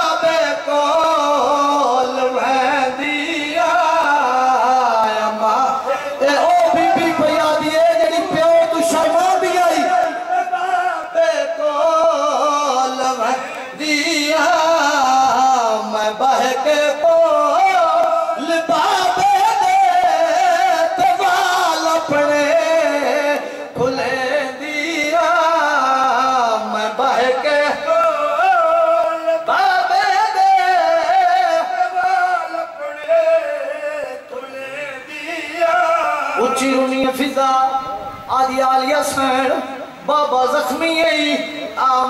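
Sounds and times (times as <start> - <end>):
man chanting a mournful lament: 0.0 - 42.0.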